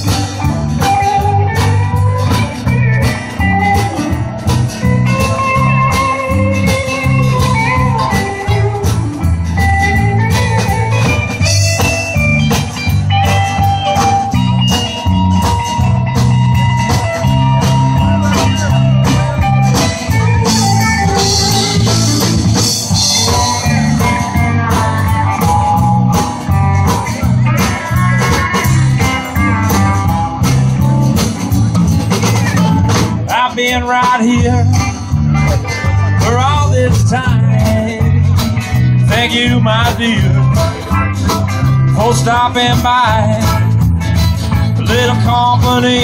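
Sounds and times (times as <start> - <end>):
bass: 0.0 - 46.0
drums: 0.0 - 46.0
electric guitar lead: 0.0 - 46.0
strummed acoustic guitar: 0.0 - 46.0.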